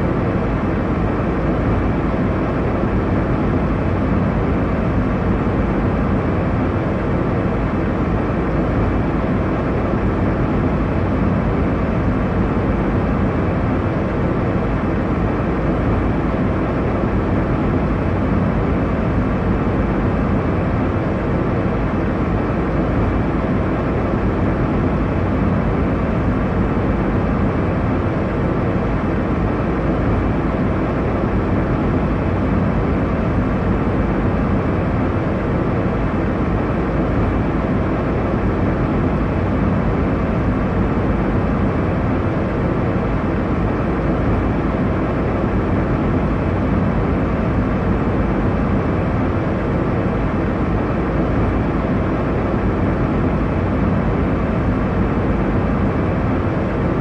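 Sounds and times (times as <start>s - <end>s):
airliner cabin engine rush: 0.0s - 57.0s.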